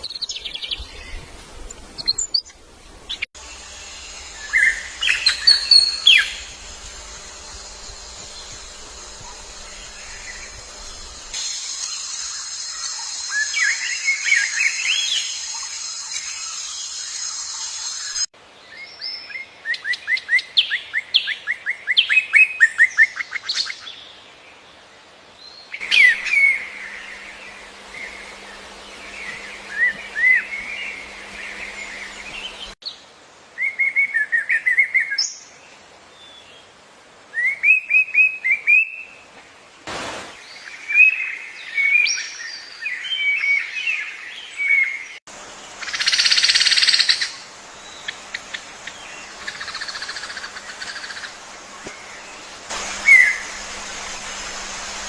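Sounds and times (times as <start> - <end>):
steady high hiss: 0.0 - 19.2, 24.8 - 55.0
small birds chirping and trilling: 0.0 - 22.3, 25.4 - 33.0, 40.4 - 55.0.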